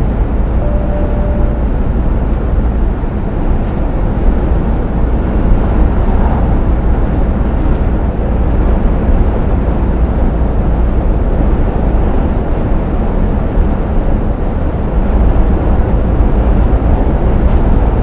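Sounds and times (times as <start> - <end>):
diesel truck engine rumble: 0.0 - 18.0
tyre and road noise: 0.0 - 18.0.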